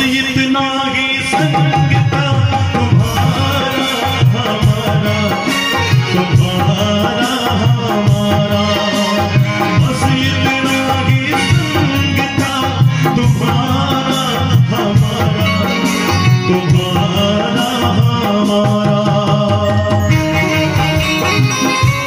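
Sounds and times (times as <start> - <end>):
harmonium reed tones: 0.0 - 22.0.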